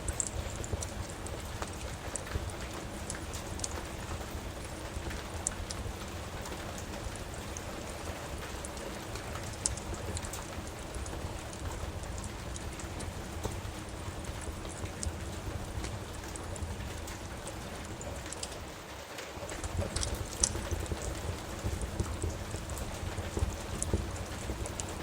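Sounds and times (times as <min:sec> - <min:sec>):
steady rain: 0:00.0 - 0:25.0
wood fire crackling: 0:00.0 - 0:25.0.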